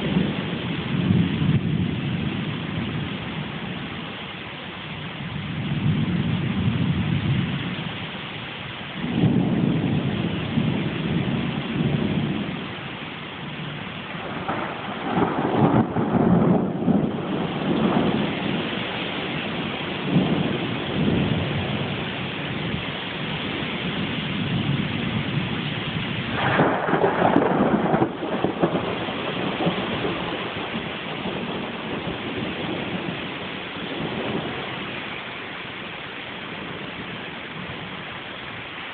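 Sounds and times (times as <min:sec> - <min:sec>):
thunder rumbling: 0:00.0 - 0:38.7
heavy rain: 0:00.0 - 0:38.9.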